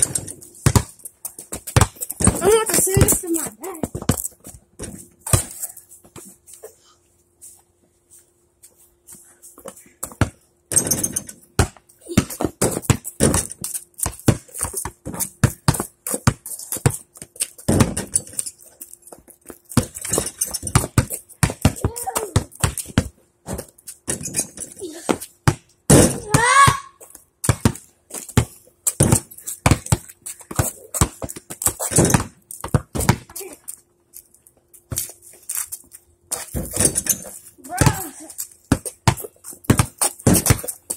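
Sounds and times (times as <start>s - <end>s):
basketballs bouncing on concrete: 0.0s - 6.4s, 9.6s - 33.9s, 34.5s - 40.9s.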